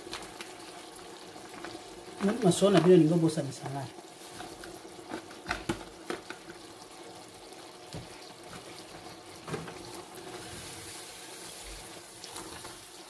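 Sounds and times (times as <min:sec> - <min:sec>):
sauce simmering with low hiss: 0:00.0 - 0:13.0.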